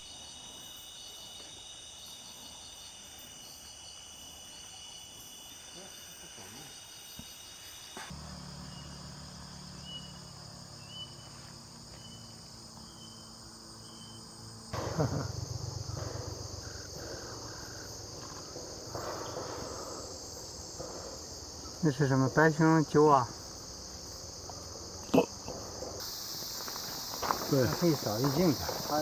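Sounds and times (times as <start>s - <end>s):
insects trilling and chirping: 0.0s - 29.0s.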